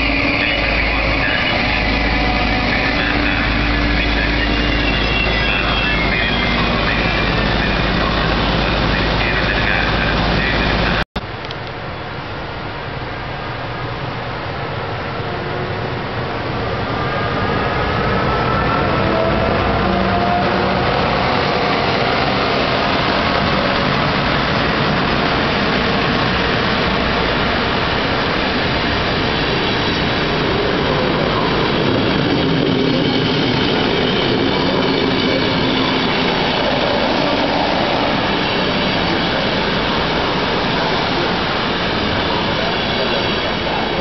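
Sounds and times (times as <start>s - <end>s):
train wheels rumbling on rail: 0.0s - 11.8s, 14.6s - 44.0s.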